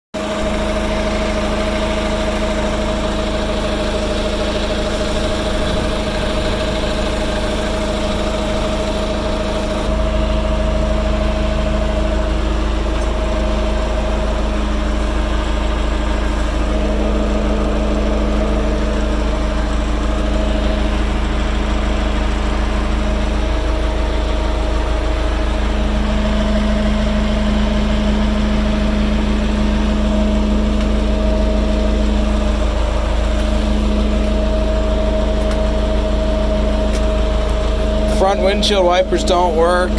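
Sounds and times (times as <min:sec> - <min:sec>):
diesel engine idling: 0:00.2 - 0:39.9.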